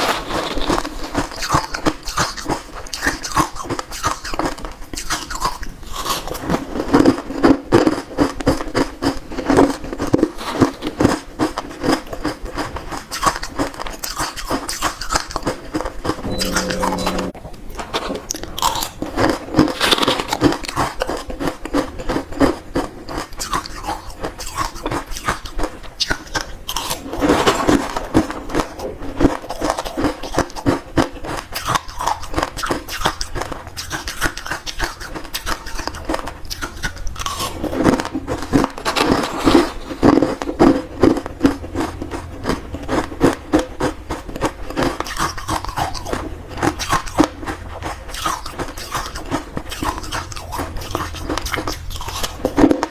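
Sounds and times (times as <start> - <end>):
ice being chewed: 0.0 - 17.2, 18.3 - 52.9.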